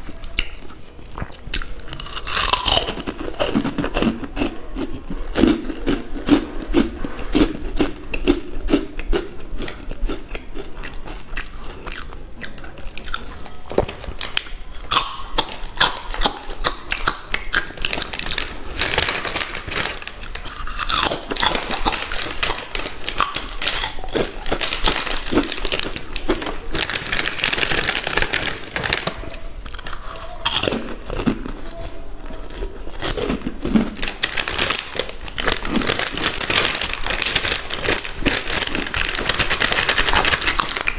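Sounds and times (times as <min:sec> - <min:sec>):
crunching chips: 0:00.0 - 0:40.9.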